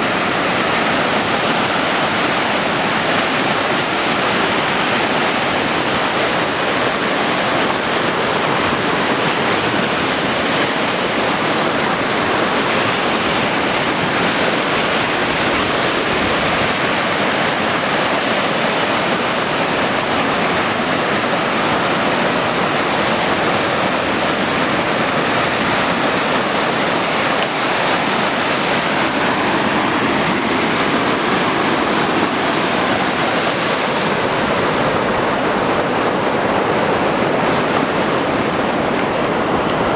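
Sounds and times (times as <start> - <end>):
surf washing onto shore: 0.0 - 39.9.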